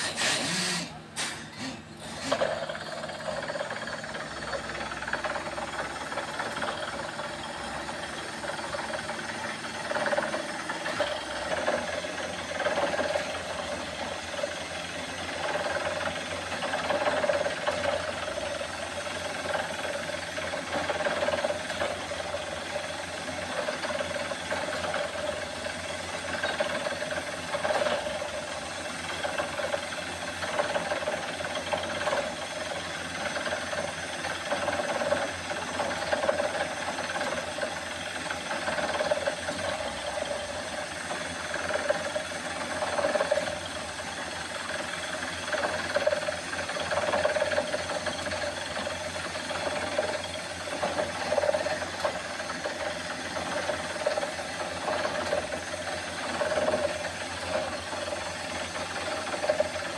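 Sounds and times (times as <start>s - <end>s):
drilling rig droning: 0.0s - 59.9s.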